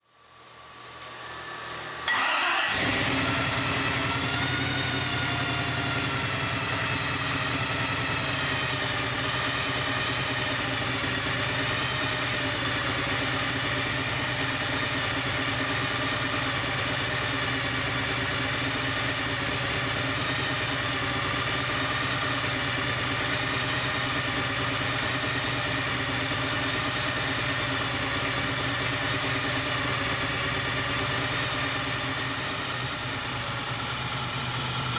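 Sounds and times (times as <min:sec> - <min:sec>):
car engine cranking and idling: 0:02.0 - 0:34.9.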